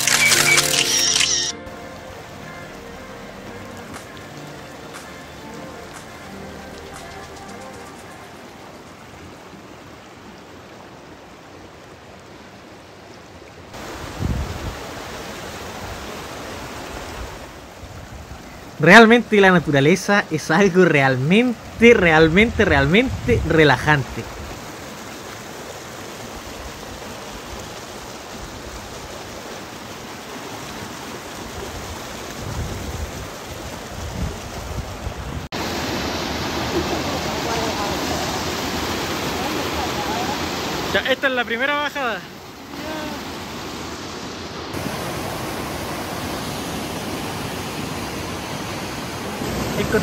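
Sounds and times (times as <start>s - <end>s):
river rushing over rocks: 0.0s - 50.0s.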